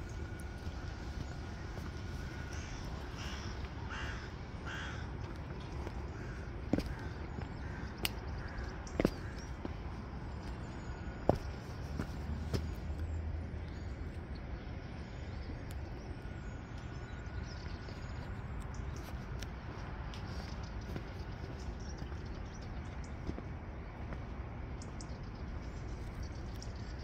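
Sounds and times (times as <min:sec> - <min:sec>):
low city rumble: 0:00.0 - 0:27.0.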